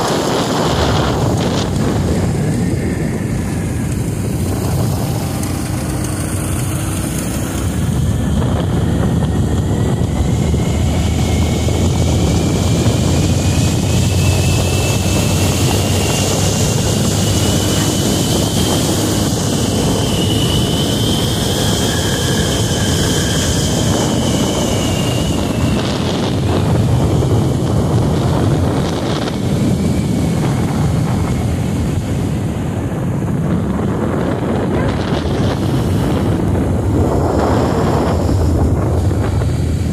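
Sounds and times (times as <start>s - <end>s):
motorcycle engine running: 0.0s - 39.9s
rising whine: 0.0s - 39.9s
wind on microphone: 0.0s - 39.9s.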